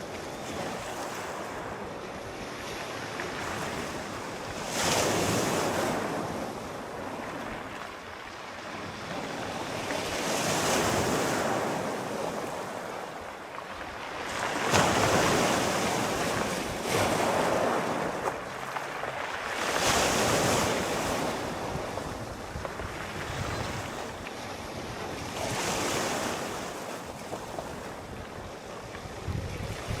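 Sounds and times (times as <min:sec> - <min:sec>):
sea waves washing in: 0:00.0 - 0:30.0
wind: 0:00.0 - 0:30.0.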